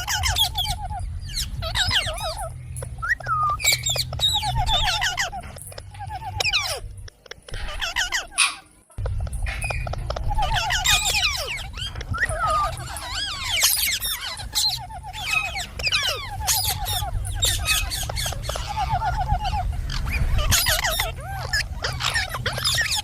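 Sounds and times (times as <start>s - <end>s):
parrot calling and chattering: 0.0s - 23.0s
steady low hum: 0.0s - 23.0s.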